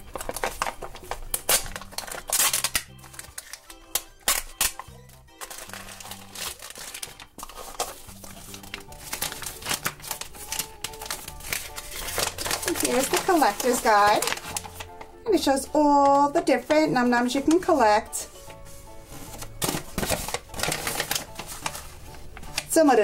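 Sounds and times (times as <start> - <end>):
foil packet crinkling and tearing: 0.0 - 22.8.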